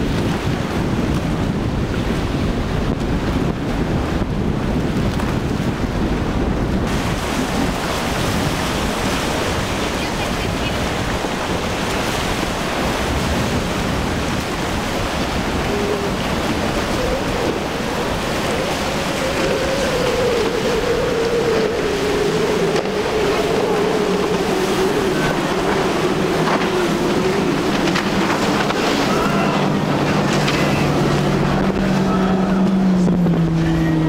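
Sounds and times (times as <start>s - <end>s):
breaking surf: 0.0s - 34.0s
outboard engines droning: 0.0s - 34.0s
wind on the microphone: 0.0s - 34.0s.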